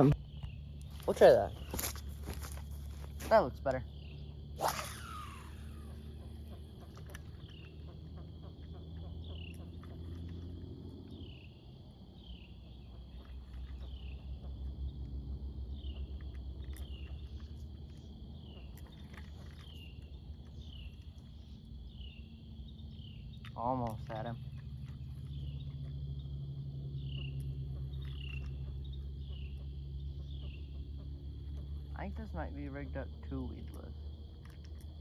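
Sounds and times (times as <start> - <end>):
insect chirp: 0.0 - 35.0
insects droning: 0.0 - 35.0.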